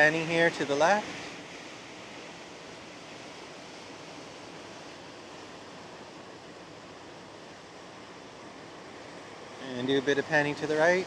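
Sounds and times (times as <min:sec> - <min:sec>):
ship's churning wake: 0:00.0 - 0:11.0
wind: 0:00.0 - 0:11.0.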